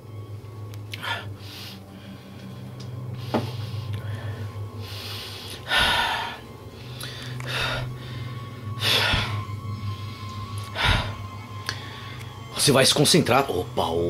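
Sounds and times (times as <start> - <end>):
low droning hum: 0.0 - 14.0
person breathing heavily: 0.9 - 12.5.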